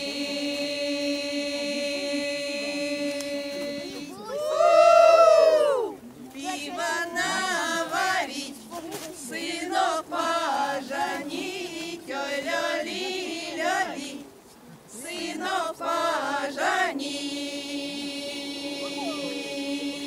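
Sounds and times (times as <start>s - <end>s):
women singing a cappella: 0.0s - 20.0s.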